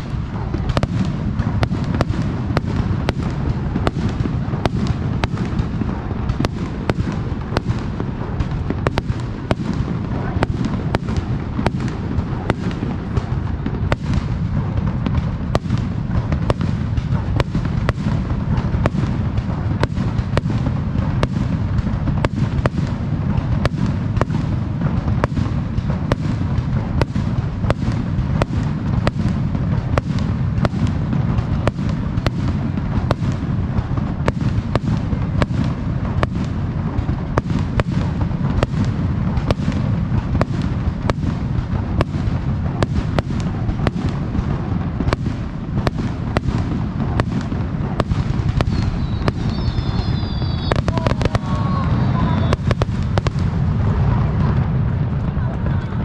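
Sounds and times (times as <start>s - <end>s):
fireworks bangs: 0.0s - 56.0s
low rumble of booms: 0.0s - 56.0s.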